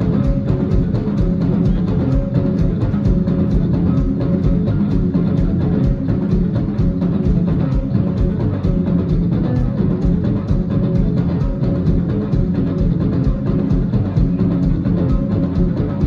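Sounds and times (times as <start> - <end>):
amplified guitar: 0.0 - 16.0
drum kit beat: 0.0 - 16.0.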